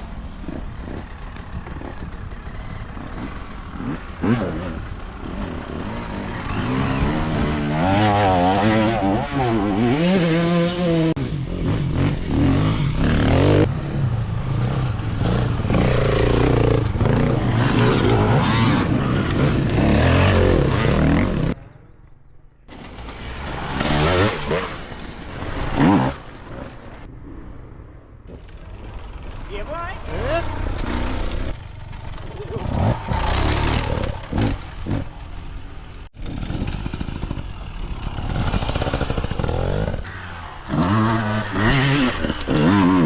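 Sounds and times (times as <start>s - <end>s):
dirt bike engine revving: 0.0s - 21.6s, 22.7s - 27.1s, 28.3s - 43.0s.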